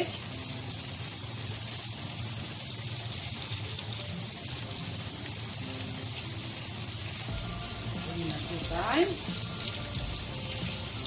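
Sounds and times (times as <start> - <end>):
fish and onions sizzling in oil: 0.0 - 11.0.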